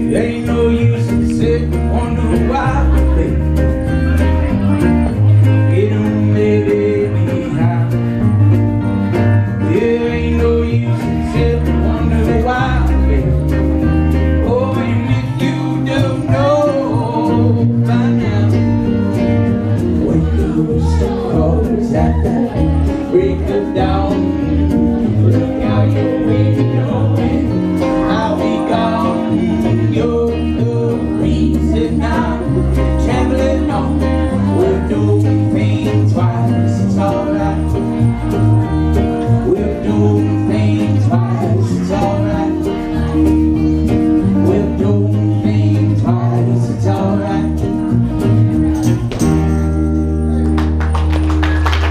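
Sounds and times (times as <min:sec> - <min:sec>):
acoustic guitar: 0:00.0 - 0:51.9
upright double bass: 0:00.0 - 0:51.9.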